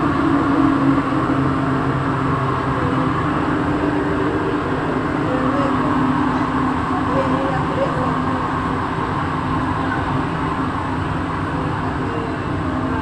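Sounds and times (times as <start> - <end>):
metro train running in tunnel: 0.0 - 13.0.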